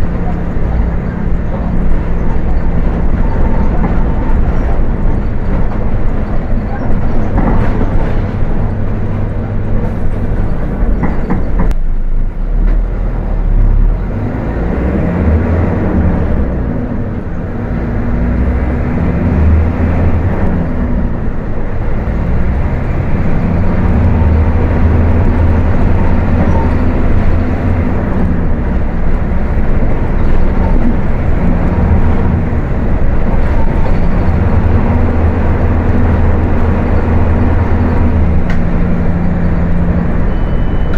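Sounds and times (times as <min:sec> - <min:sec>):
bus diesel engine revving: 0:00.0 - 0:40.9.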